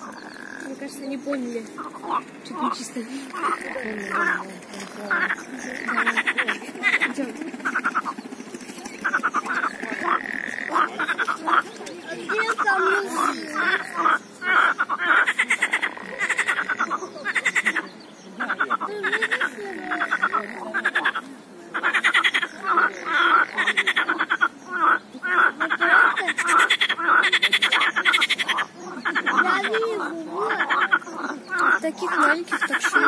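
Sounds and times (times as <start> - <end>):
frogs croaking: 0.0 - 33.0.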